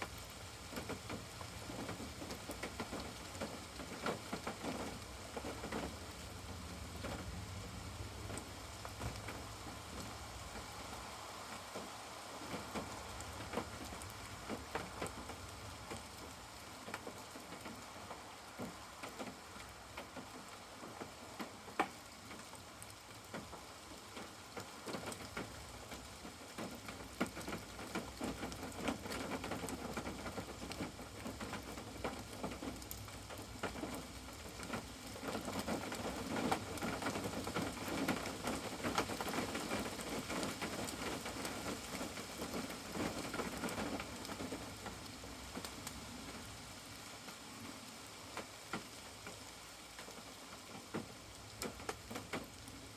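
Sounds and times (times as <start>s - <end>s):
rain drops pattering: 0.0s - 52.9s.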